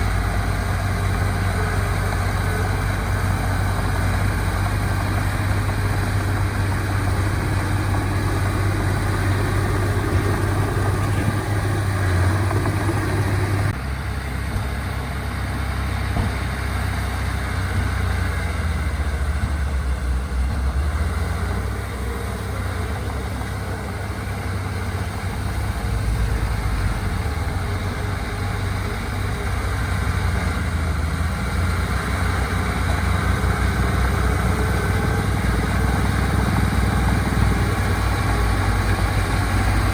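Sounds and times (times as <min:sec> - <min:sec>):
heavy machinery engines running: 0:00.0 - 0:39.9.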